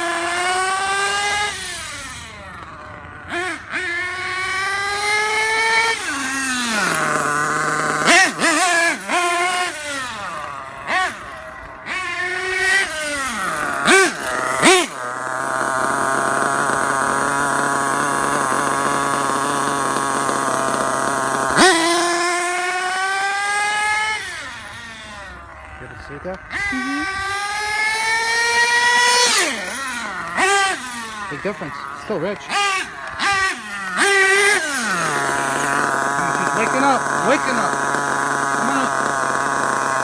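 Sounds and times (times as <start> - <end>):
model engine revving and idling: 0.0 - 40.0.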